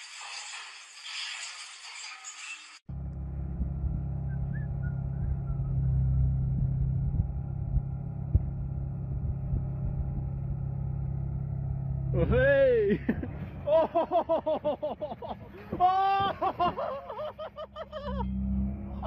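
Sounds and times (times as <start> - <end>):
bulldozer diesel engine rumbling: 2.9 - 15.9, 16.6 - 19.0.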